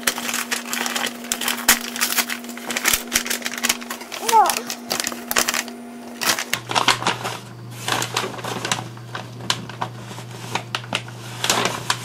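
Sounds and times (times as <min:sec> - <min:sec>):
paper packaging crinkling: 0:00.0 - 0:12.0.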